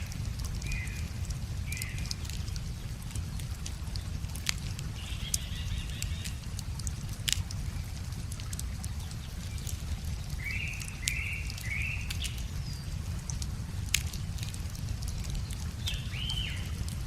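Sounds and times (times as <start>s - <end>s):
flowing river water: 0.0s - 17.0s
wood fire crackling: 0.0s - 17.0s.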